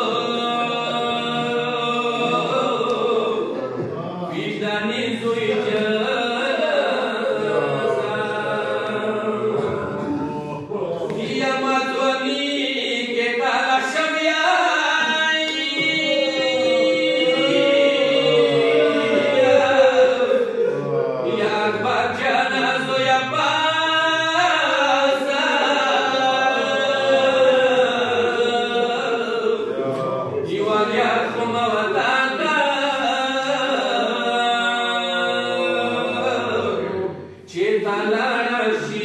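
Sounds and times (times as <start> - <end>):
man chanting unaccompanied: 0.0 - 39.0.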